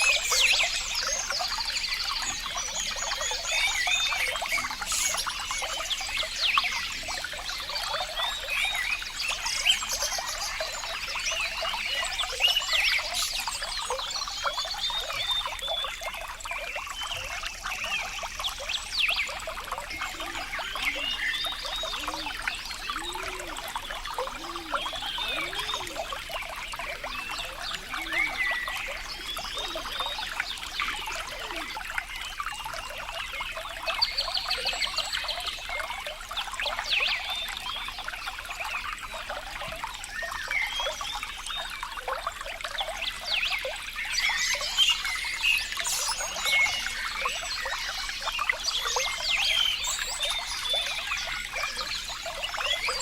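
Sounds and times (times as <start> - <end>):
water trickling and splashing: 0.0 - 53.0.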